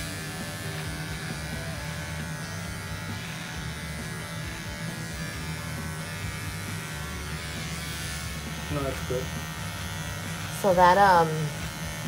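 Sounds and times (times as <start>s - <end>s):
electric shaver buzzing: 0.0s - 12.0s.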